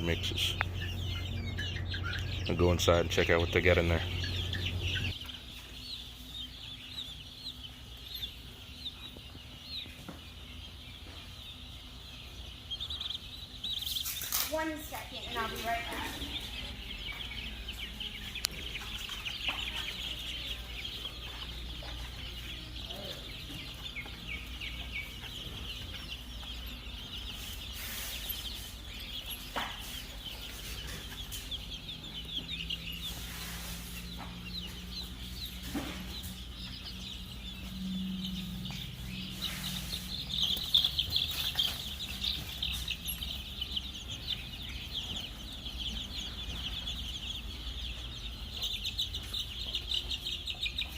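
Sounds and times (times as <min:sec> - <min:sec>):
baby chicks peeping: 0:00.0 - 0:50.9.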